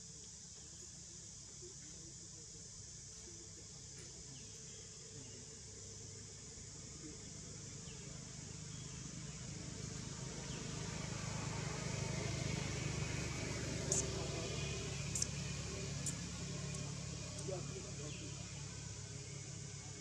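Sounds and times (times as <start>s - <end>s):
distant engine hum: 0.0s - 20.0s.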